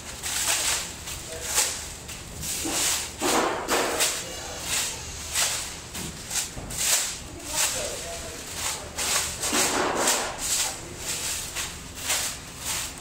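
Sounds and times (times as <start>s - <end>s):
plastic sheet rustling: 0.0s - 13.0s.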